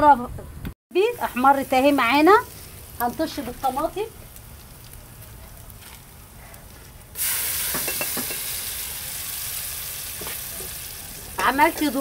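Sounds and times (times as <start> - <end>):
tomato sizzling in hot oil: 1.0 - 12.0.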